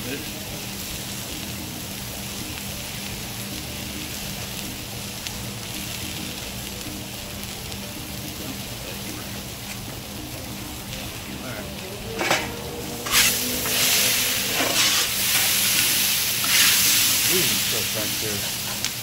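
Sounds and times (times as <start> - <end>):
vegetables sizzling on a griddle: 0.0 - 19.0.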